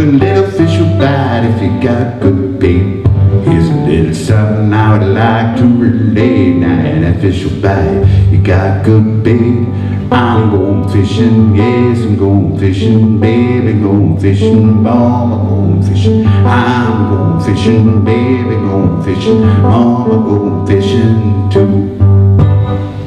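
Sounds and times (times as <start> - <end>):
resonator guitar strummed chords: 0.0 - 23.0
sustained bass: 0.0 - 23.0.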